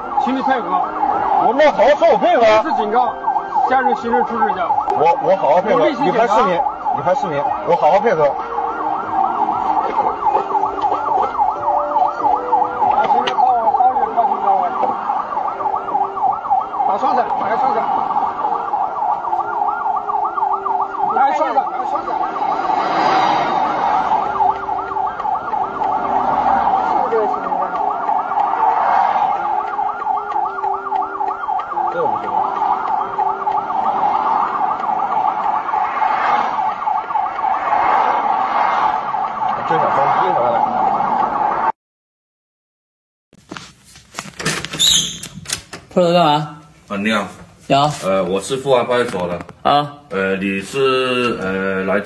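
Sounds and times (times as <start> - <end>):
police siren warbling: 0.0 - 41.8, 50.6 - 52.0.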